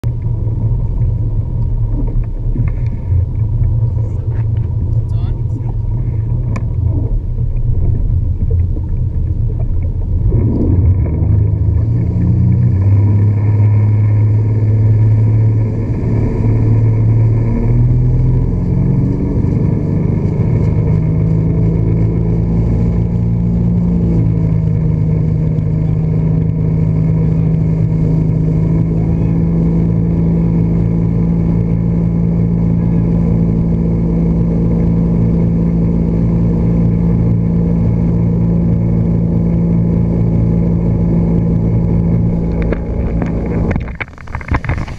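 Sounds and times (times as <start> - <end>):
motorboat engine: 0.0 - 44.9.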